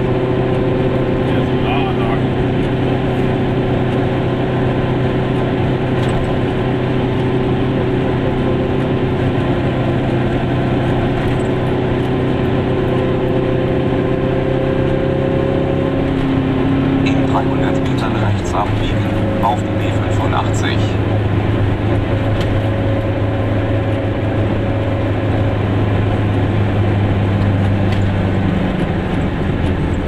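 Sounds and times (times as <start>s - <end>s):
road noise: 0.0s - 30.0s
two-stroke car engine running: 0.0s - 30.0s.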